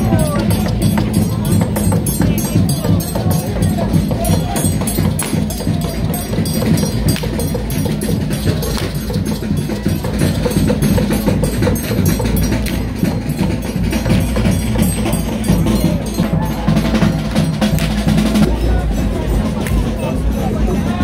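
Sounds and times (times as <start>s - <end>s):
drums and percussion beating fast: 0.0s - 21.0s.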